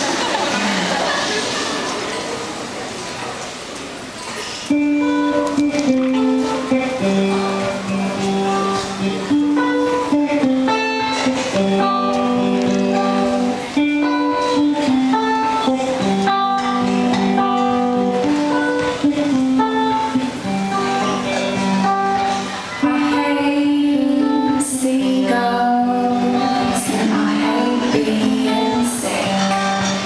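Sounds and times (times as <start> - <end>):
live guitar music: 4.6 - 30.0.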